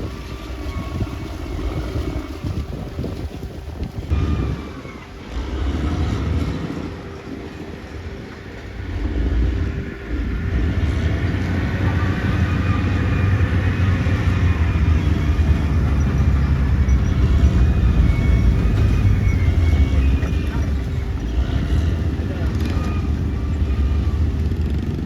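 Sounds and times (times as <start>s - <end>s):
bulldozer diesel engine rumbling: 0.0s - 25.0s.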